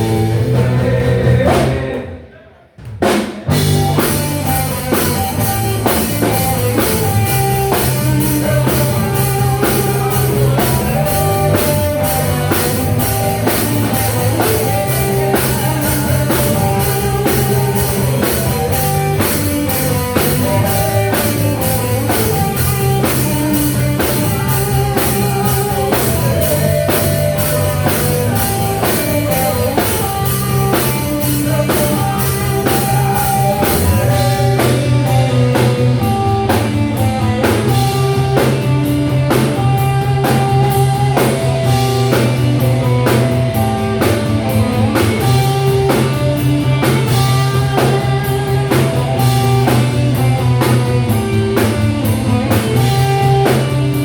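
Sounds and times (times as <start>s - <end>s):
rock band playing: 0.0s - 2.0s, 2.8s - 54.0s
drum kit beat: 0.0s - 54.0s.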